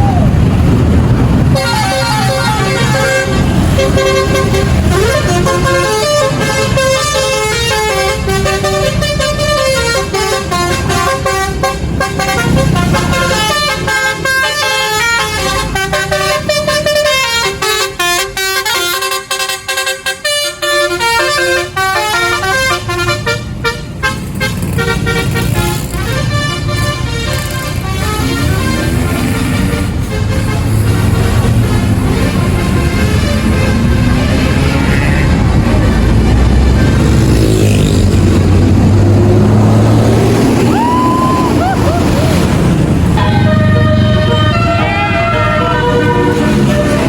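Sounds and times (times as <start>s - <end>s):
bus engine running: 0.0s - 47.0s
bus horn playing a melody: 1.3s - 39.2s, 40.3s - 47.0s.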